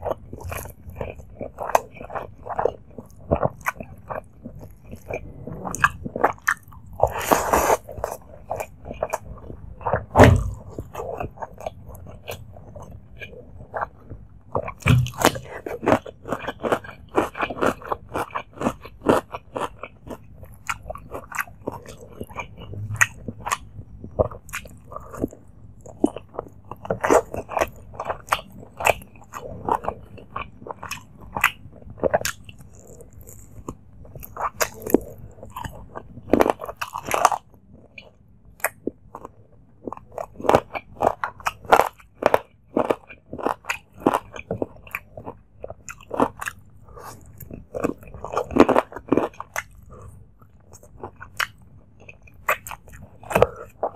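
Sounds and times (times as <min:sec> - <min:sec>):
wet chewing and mouth clicks: 0:00.0 - 0:53.9.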